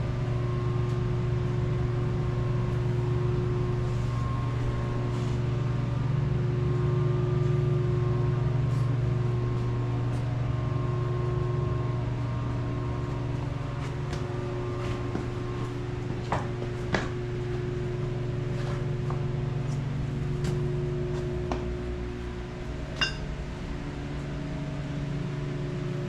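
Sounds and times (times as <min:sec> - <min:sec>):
heater fan hum: 0:00.0 - 0:26.0.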